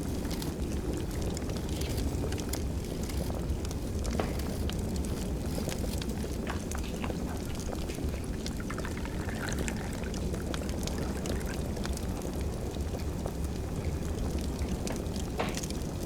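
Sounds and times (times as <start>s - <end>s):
fire crackling with pops: 0.0s - 16.0s.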